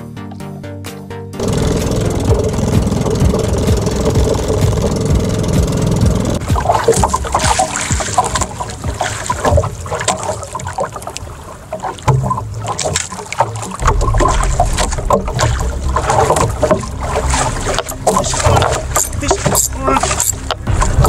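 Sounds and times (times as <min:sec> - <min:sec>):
waves slapping boat hull: 0:01.4 - 0:21.0
wind rumbling on microphone: 0:02.2 - 0:21.0.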